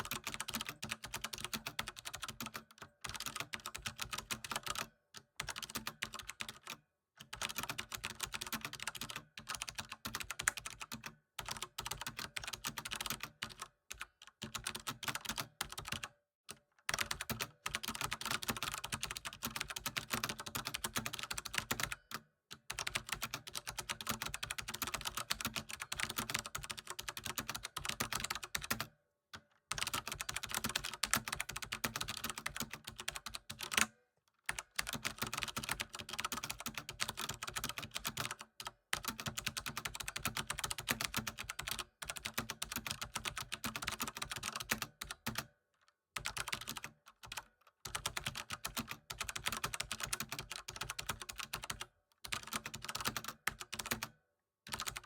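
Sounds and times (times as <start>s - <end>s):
computer keyboard typing: 0.0s - 16.1s, 16.9s - 22.0s, 22.6s - 28.9s, 29.7s - 33.9s, 34.5s - 45.5s, 46.2s - 55.0s.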